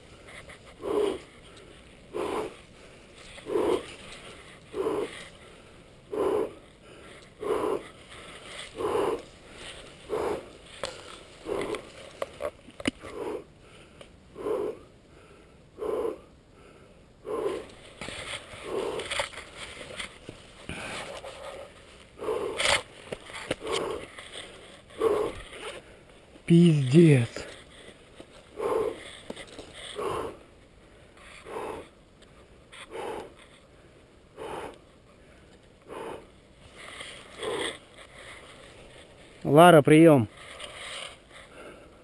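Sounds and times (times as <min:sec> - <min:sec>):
person breathing heavily: 0:00.0 - 0:12.1, 0:13.0 - 0:22.7, 0:23.4 - 0:39.4, 0:40.6 - 0:42.0
rustling: 0:00.0 - 0:14.2, 0:17.3 - 0:42.0.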